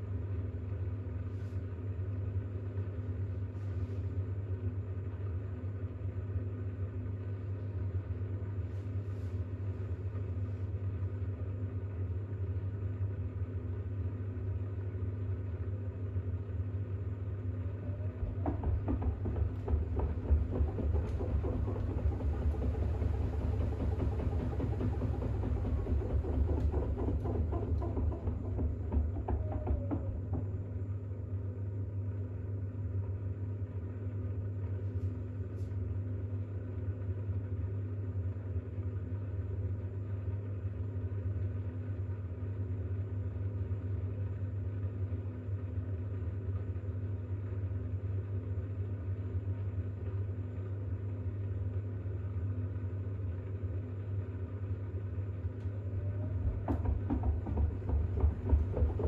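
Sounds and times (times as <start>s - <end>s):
washing machine spinning: 2.2s - 59.0s.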